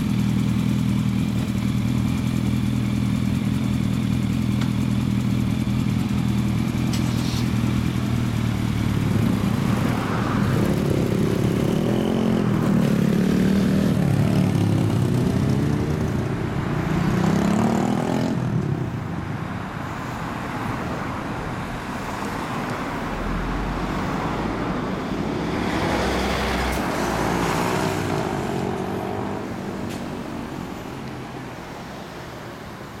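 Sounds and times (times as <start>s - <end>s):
motorcycle engines idling and revving: 0.0s - 33.0s
street traffic: 0.0s - 33.0s.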